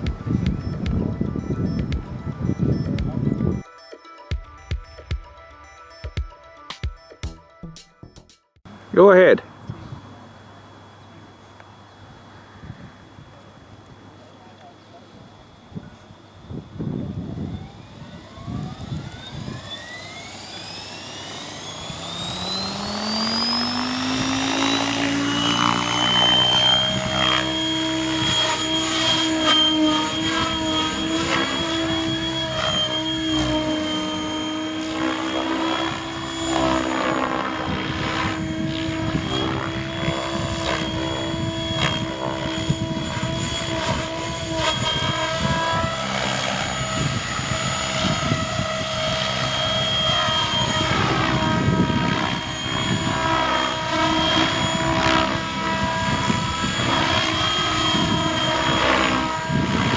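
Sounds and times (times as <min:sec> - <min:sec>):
rotor blades rushing: 0:00.0 - 0:03.6, 0:15.4 - 0:59.9
rc helicopter motor whine: 0:00.0 - 0:03.8, 0:08.7 - 0:59.9.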